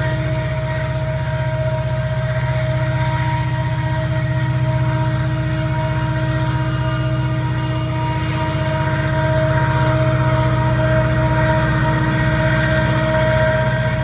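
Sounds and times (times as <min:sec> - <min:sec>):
locomotive engine throbbing: 0:00.0 - 0:14.0
steady whining tones: 0:00.0 - 0:14.0.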